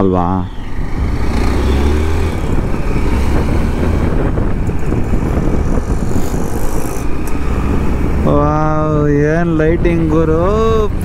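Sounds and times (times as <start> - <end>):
road noise: 0.0 - 11.0
motorcycle engine running: 0.5 - 11.0.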